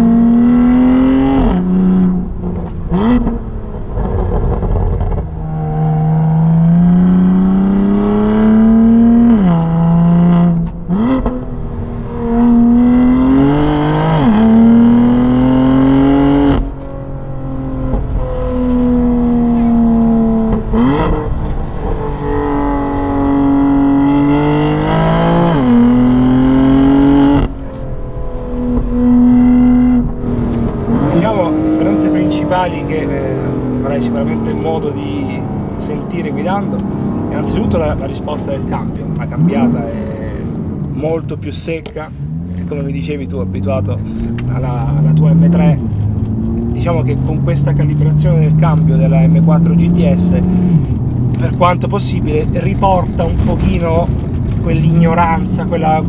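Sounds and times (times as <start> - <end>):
car engine revving: 0.0 - 56.0
exhaust cracks: 0.0 - 56.0.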